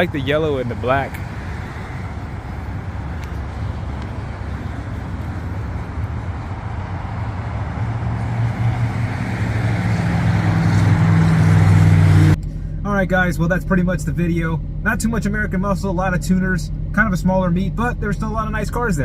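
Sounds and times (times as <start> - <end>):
car engine running: 0.0 - 19.0
outdoor background noise: 0.0 - 19.0.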